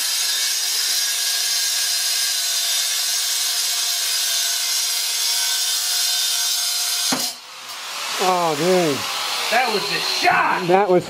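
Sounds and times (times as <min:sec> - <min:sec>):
angle grinder cutting metal: 0:00.0 - 0:11.0.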